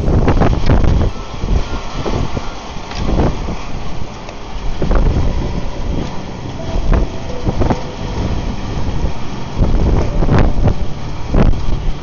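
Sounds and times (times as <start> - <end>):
heavy rain: 0.0 - 12.0
wind buffeting microphone: 0.0 - 12.0.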